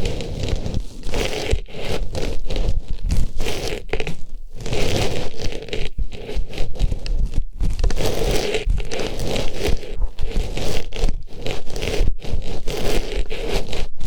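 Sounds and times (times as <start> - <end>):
artificial flower rustling on microphone: 0.0 - 14.0.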